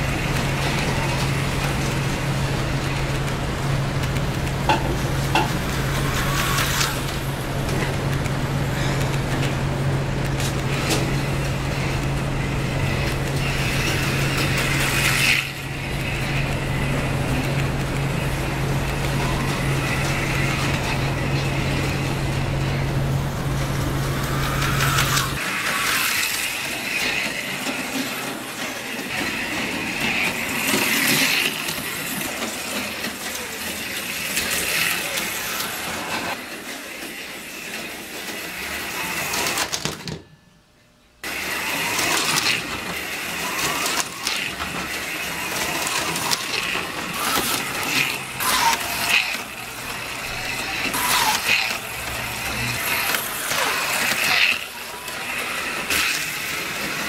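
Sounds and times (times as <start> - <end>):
small electric motors whining: 0.0 - 39.9, 41.2 - 57.0
slot cars rattling in track: 0.0 - 40.3, 41.2 - 57.0.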